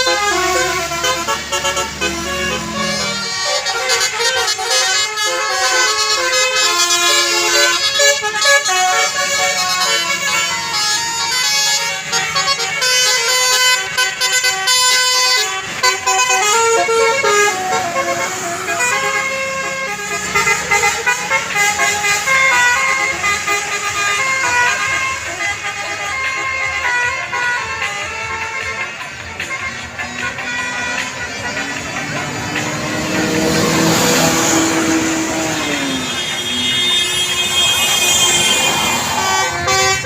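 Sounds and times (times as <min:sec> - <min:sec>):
multi-tone air horn melody: 0:00.0 - 0:40.0.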